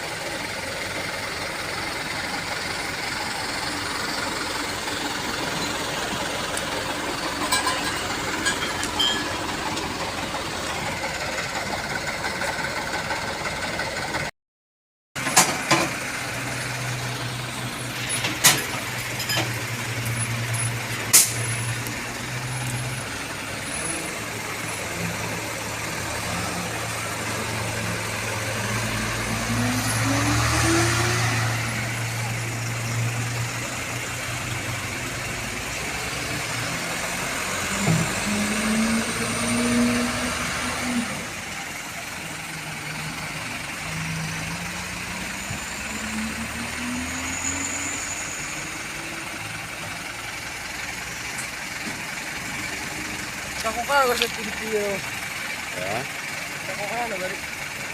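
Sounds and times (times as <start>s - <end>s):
truck engine running: 0.0s - 14.3s, 15.2s - 57.9s.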